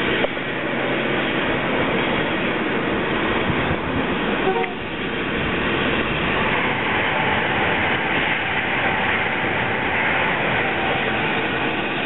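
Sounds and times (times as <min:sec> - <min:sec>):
steam locomotive venting steam: 0:00.0 - 0:12.0
train passing: 0:00.0 - 0:12.0.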